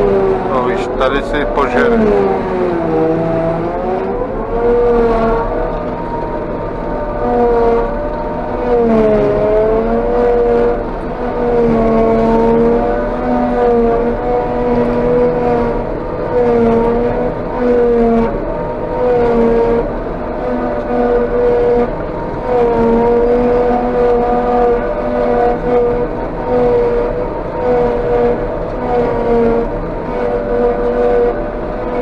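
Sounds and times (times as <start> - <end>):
forage harvester drone and whine: 0.0 - 32.0.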